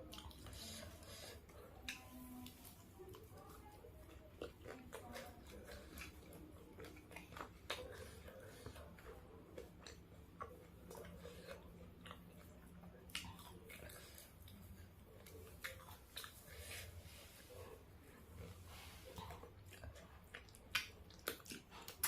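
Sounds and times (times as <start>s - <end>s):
chewing fried chicken: 0.0s - 22.0s.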